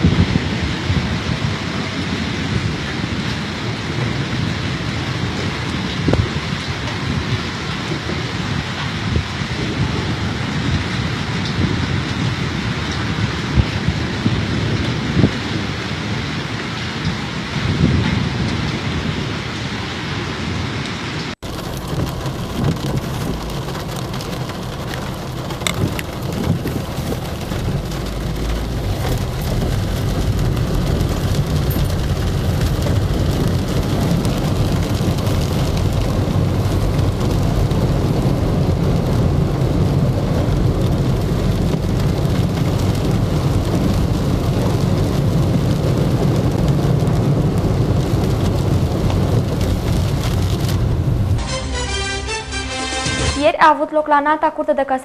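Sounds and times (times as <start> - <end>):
low rumble: 0.0 - 45.1
heavy rain pouring: 0.0 - 53.8.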